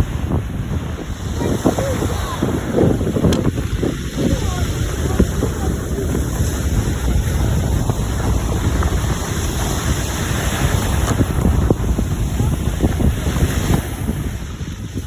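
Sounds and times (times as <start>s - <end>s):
sea waves: 0.0s - 15.0s
wind buffeting microphone: 0.0s - 15.0s.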